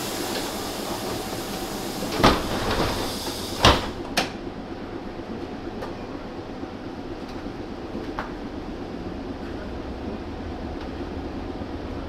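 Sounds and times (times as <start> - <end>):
train interior hum: 0.0 - 12.0.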